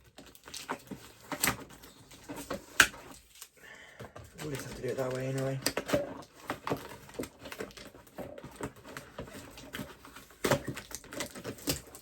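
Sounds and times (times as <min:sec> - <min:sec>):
hands opening toy packaging: 0:00.0 - 0:12.0.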